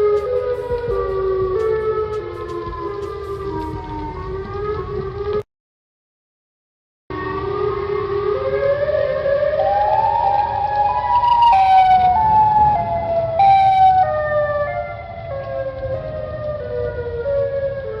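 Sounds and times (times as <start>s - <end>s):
civil defence siren rising and falling: 0.0s - 5.4s, 7.1s - 18.0s.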